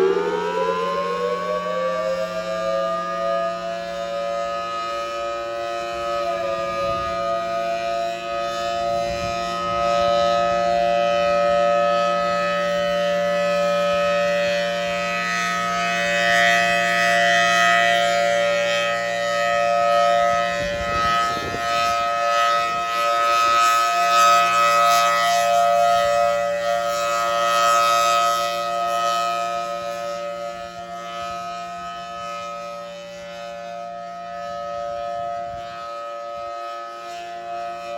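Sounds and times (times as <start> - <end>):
warning siren steady tone: 0.0 - 37.9.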